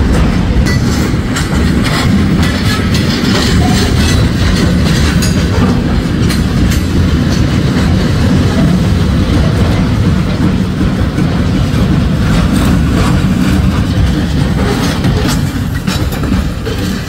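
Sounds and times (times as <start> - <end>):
loud low train rumble: 0.0 - 17.0.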